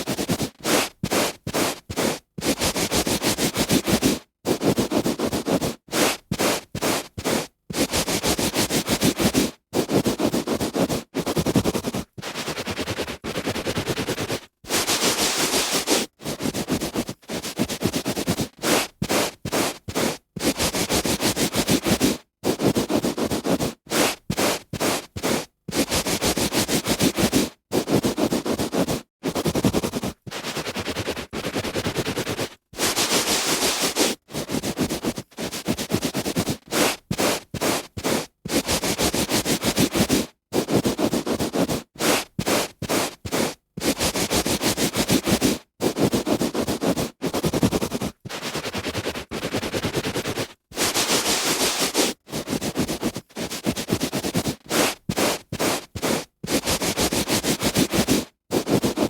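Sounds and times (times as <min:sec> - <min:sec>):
hand rubbing on carpet: 0:00.0 - 0:59.0.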